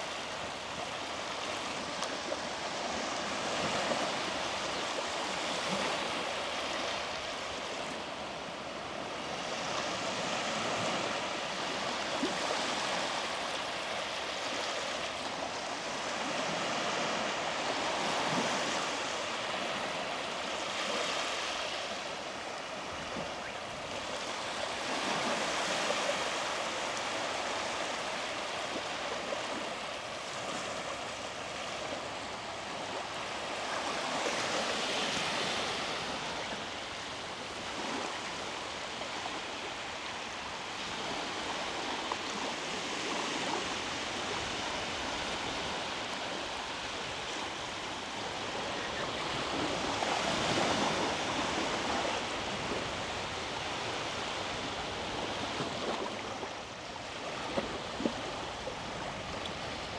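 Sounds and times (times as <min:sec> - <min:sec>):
small waves washing up a beach: 0:00.0 - 0:59.9.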